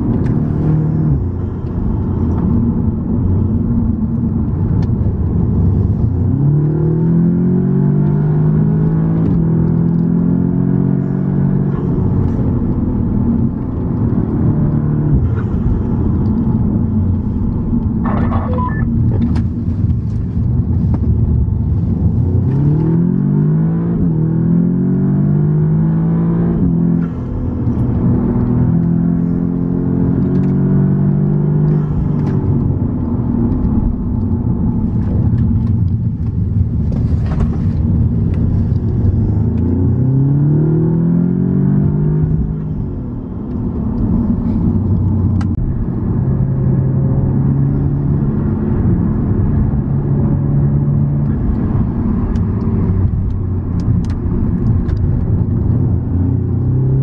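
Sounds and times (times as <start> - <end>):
car engine accelerating: 0.0 - 57.0
road rumble: 0.0 - 57.0.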